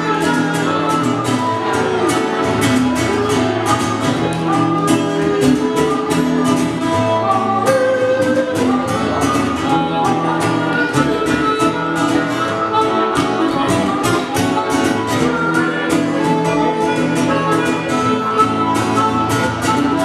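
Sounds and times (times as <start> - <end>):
harmonica sliding notes: 0.0 - 20.0
plucked upright bass: 0.0 - 20.0
strummed acoustic guitar: 0.0 - 20.0.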